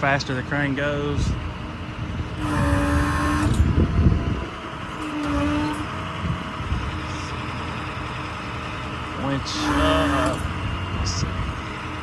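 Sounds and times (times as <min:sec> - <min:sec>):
diesel engine rumble: 0:00.0 - 0:12.0
hydraulic crane whine: 0:00.0 - 0:12.0.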